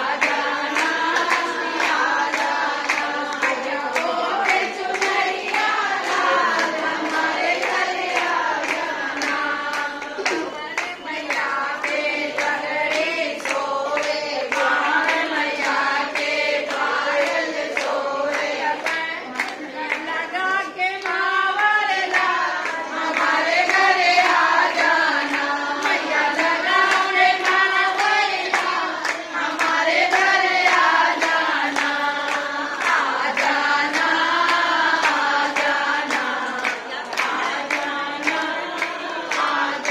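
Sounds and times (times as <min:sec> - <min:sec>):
rhythmic clapping: 0:00.0 - 0:39.9
women singing together: 0:00.0 - 0:39.9.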